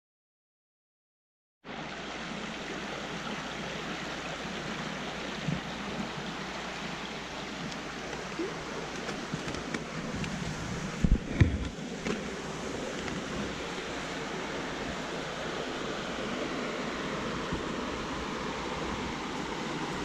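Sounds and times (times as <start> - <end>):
creek water flowing: 1.6 - 20.0.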